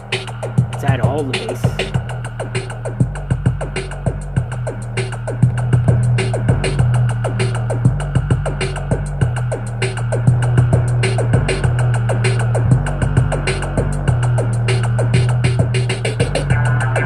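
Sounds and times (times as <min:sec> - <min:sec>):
music with heavy bass: 0:00.0 - 0:17.0.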